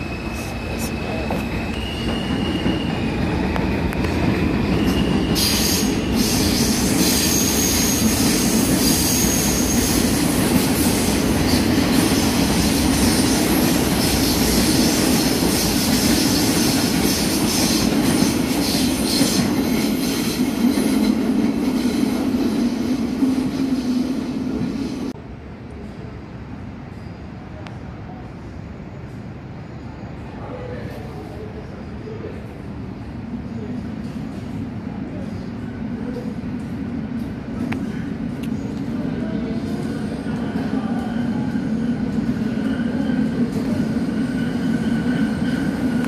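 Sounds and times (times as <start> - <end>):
subway train rumbling: 0.0 - 46.0.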